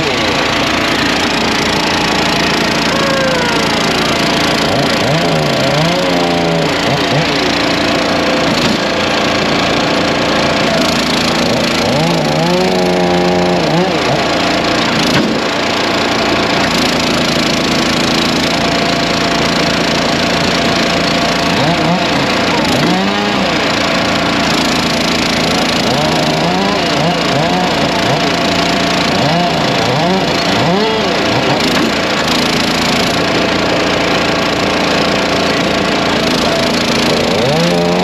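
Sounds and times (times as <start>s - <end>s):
small engines running: 0.0s - 38.0s.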